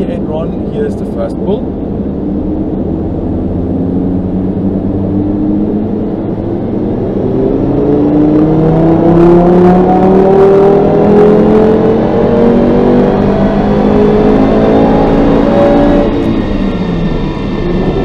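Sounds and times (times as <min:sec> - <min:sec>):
car engine revving at full throttle: 0:00.0 - 0:18.0.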